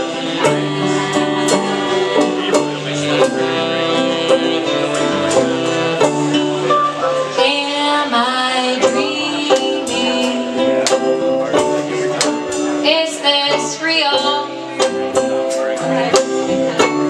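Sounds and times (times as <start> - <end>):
acoustic band playing: 0.0 - 17.0
plucked string instruments: 0.0 - 17.0
sliding melodic line: 0.0 - 17.0.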